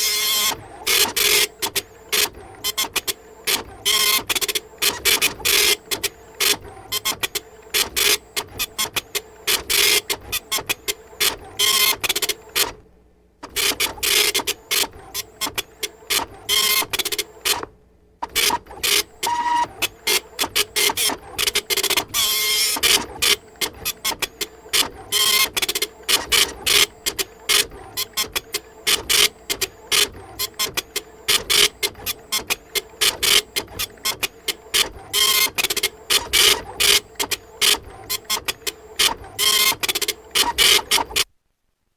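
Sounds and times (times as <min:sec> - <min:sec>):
printer printing strokes: 0:00.0 - 0:12.8, 0:13.4 - 0:41.3
printer hum: 0:00.0 - 0:41.3.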